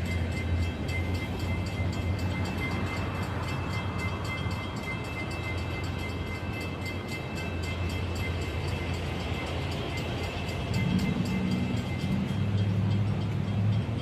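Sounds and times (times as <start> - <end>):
crossing warning bell ringing: 0.0 - 14.0
train rumbling: 0.0 - 14.0.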